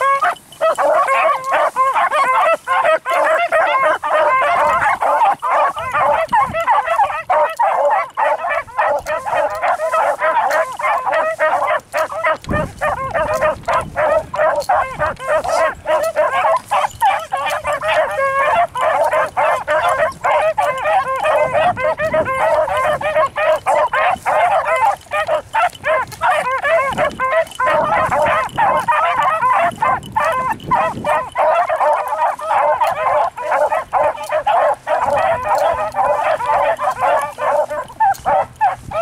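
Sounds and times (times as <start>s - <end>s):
dogs baying: 0.0s - 39.0s.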